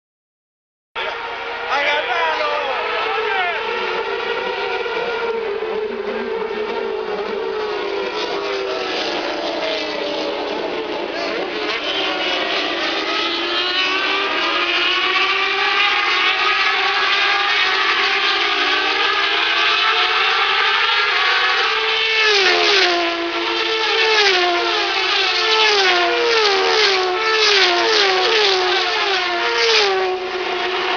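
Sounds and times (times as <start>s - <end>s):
race car engine at high revs: 1.0s - 30.9s.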